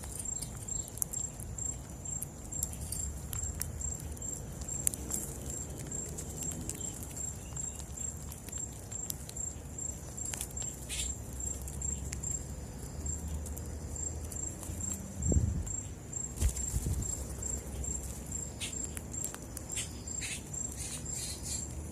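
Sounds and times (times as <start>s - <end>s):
animals pecking in birdseed: 0.0s - 21.9s
insect chirping: 0.0s - 21.9s.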